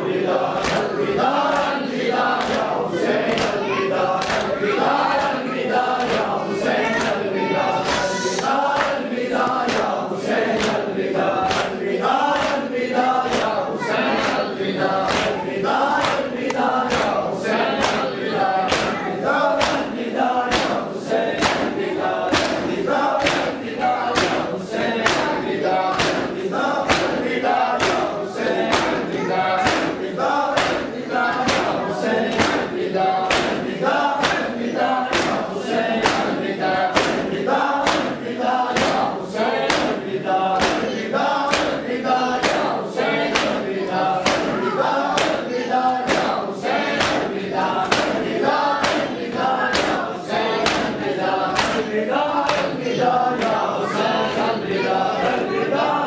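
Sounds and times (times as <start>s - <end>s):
men chanting in unison: 0.0s - 56.0s
rhythmic chest beating: 0.0s - 56.0s.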